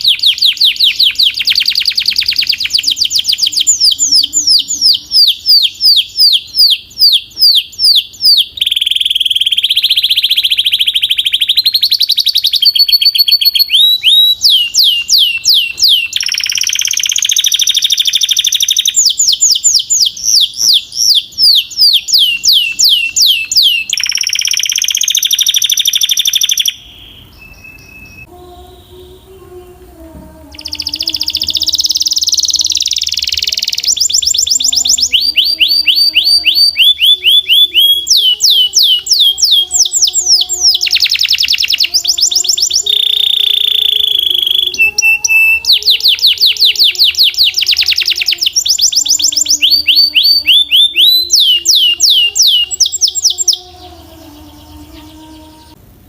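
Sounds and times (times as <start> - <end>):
canary singing trills: 0.0 - 55.8.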